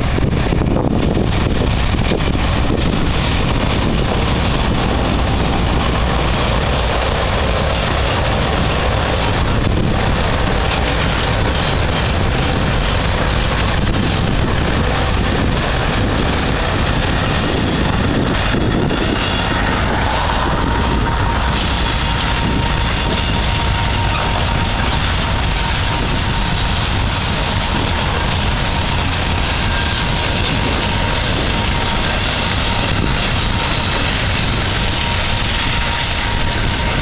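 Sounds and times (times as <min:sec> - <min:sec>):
diesel locomotive rumble: 0:00.0 - 0:37.0
train wheels rolling on rails: 0:00.0 - 0:37.0.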